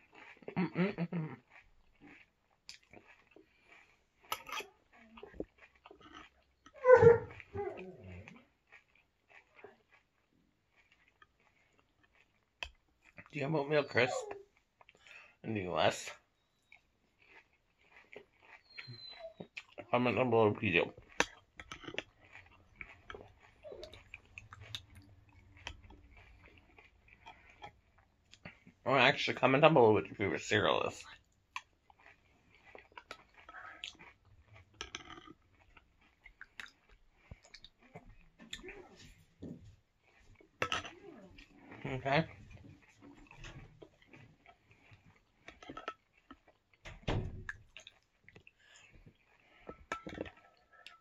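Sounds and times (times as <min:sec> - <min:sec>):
chewing crunchy cereal: 0:00.0 - 0:51.0.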